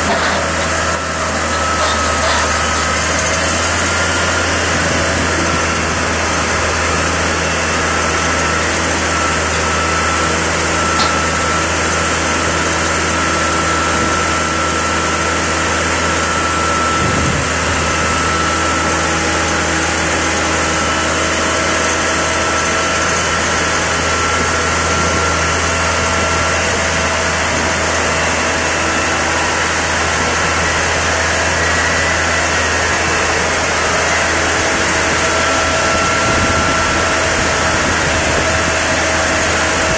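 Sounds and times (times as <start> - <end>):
crane diesel engine droning: 0.0 - 39.9
steady whine: 0.0 - 39.9.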